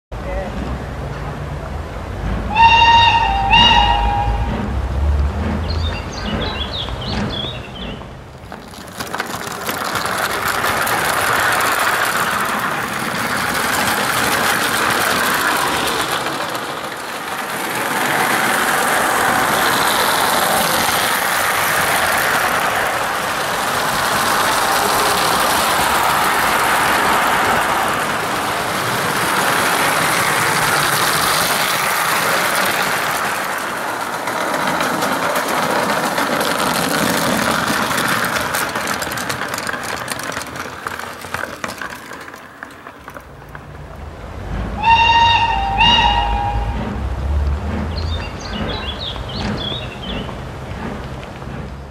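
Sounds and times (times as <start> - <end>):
toy train wheels on rails: 2.4 - 51.9.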